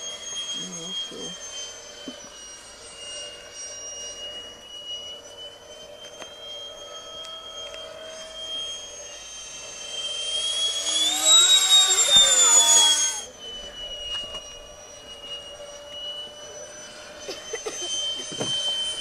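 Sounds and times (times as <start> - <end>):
model jet fan whine: 0.0 - 19.0.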